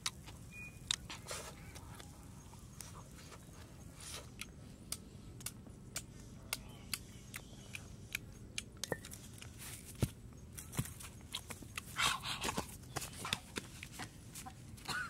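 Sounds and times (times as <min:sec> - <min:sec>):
crunchy food chewing: 0:00.0 - 0:14.6.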